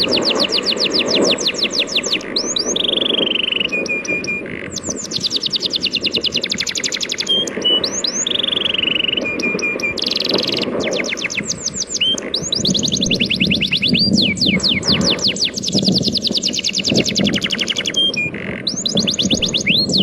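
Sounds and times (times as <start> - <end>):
songbird trilling: 0.0 - 20.0.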